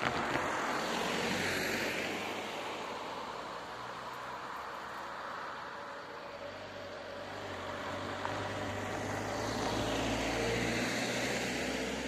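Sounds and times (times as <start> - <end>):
van engine and tyre noise: 0.0 - 12.0.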